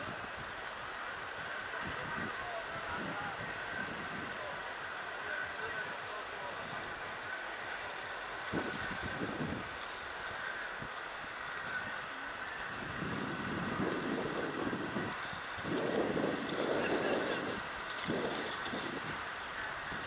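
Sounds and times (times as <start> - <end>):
skate wheels rolling on asphalt: 0.0 - 20.0
wind rumble on microphone: 0.0 - 20.0.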